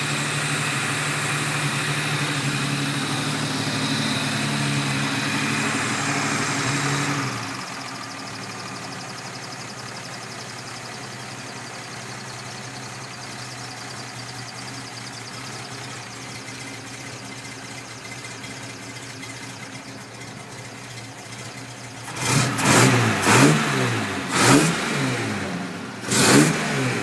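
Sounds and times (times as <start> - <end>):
petrol engine idling: 0.0 - 27.0.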